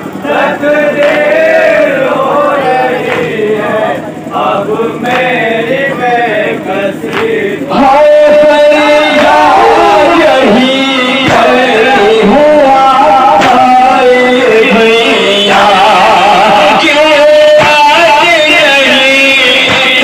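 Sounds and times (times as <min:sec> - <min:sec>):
men chanting a lament: 0:00.0 - 0:20.0.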